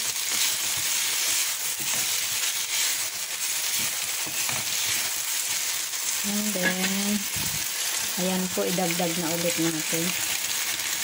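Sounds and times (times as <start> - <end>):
spatula stirring in a pan: 0.0 - 9.0
vegetables sizzling in a frying pan: 0.0 - 11.0.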